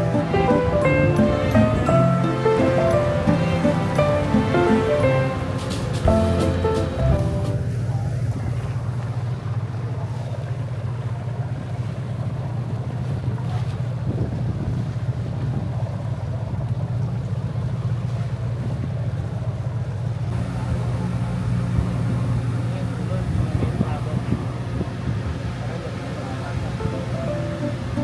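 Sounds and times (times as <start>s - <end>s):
ferry engine droning: 0.0s - 14.0s, 15.0s - 28.0s
water noise: 0.0s - 28.0s
wind: 0.0s - 28.0s.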